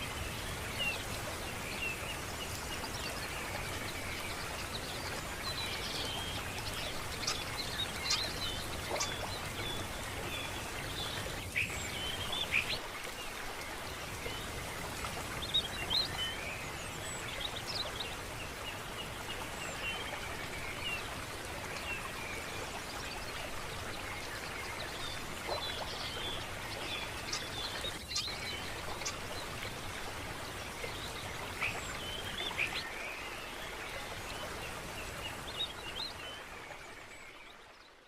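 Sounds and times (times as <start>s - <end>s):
running water: 0.0s - 38.0s.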